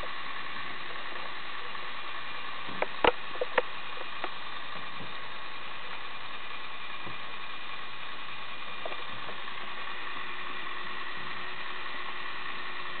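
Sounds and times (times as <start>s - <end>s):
electric motor whirring: 0.0s - 13.0s.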